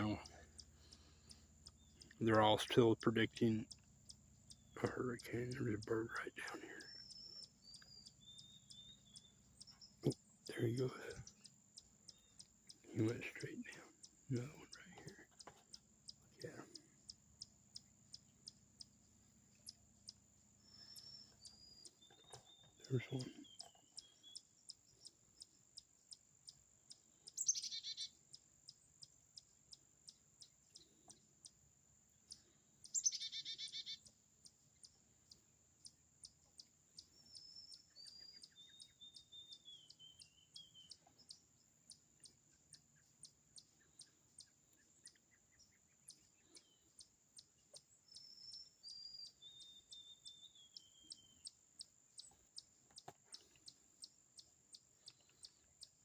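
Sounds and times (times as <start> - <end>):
bird twittering song: 0.0 - 56.0
songbird harsh calls: 0.0 - 56.0.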